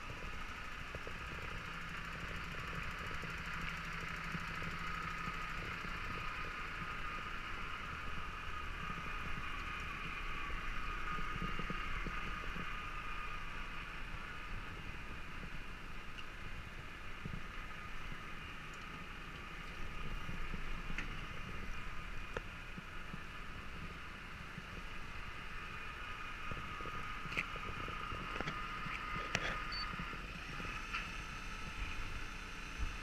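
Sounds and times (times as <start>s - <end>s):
mechanical hum with high whine: 0.0s - 33.0s.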